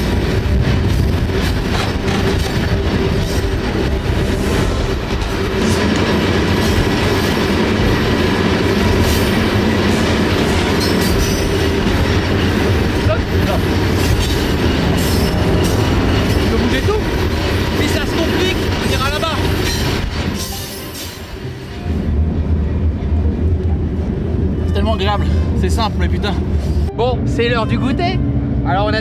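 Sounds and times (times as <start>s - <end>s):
train wagons rumbling and rattling: 0.0s - 29.0s.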